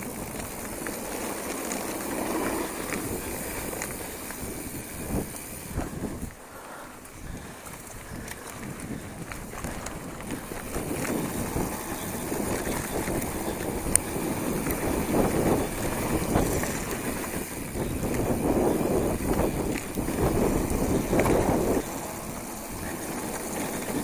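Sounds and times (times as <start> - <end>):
wind noise on microphone: 0.0 - 6.4, 7.1 - 24.0
bike tyres rattling over dirt: 0.0 - 24.0.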